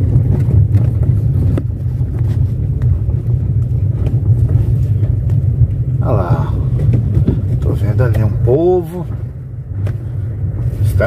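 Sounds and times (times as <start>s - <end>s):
car driving on gravel: 0.0s - 11.0s.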